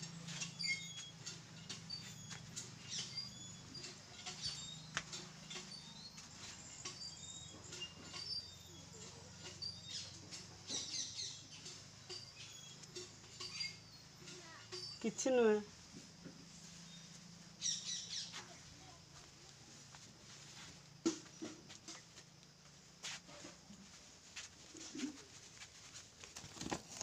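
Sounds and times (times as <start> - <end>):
small birds chirping: 0.0 - 22.5.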